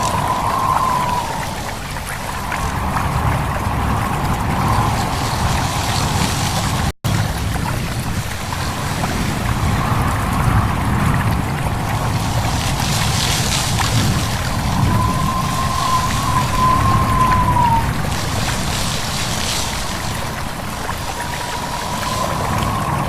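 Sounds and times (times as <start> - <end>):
stream babbling: 0.0 - 23.0
wind rustling leaves: 0.0 - 23.0.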